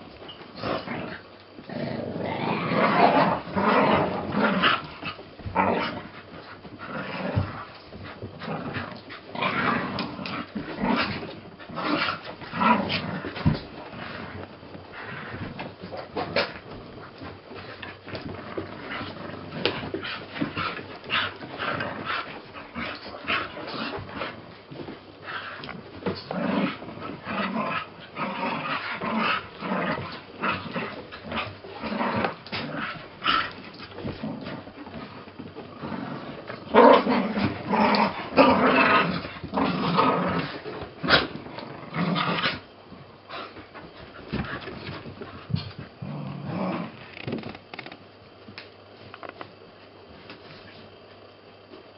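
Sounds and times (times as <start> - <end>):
dogs growling in play: 0.0 - 47.6.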